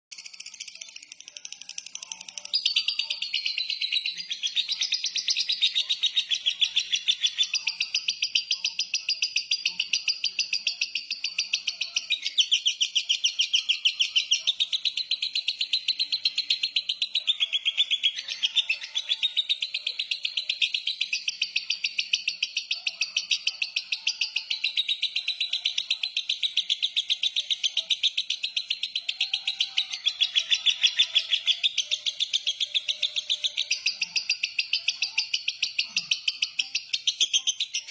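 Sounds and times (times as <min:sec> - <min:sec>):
bird chattering trill: 0:00.1 - 0:37.9.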